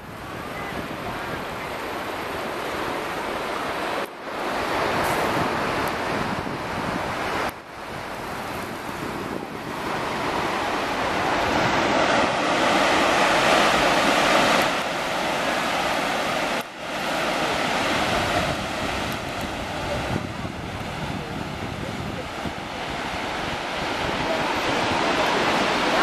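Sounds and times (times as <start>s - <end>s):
surf breaking over rocky shore: 0.0s - 26.0s.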